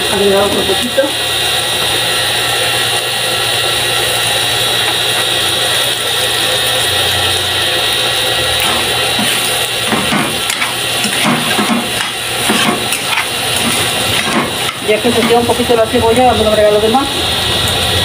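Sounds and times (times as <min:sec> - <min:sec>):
oil sizzling in frying pan: 0:00.0 - 0:18.0.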